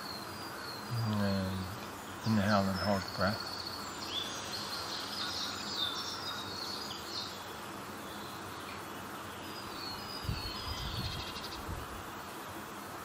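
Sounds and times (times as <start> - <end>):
small birds chirping: 0.0 - 12.7
steady background hiss: 0.0 - 13.0.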